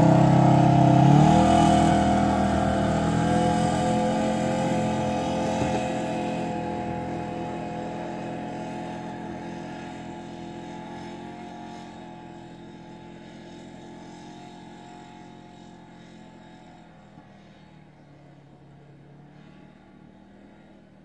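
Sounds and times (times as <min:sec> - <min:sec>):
utility vehicle engine running: 0:00.0 - 0:21.0.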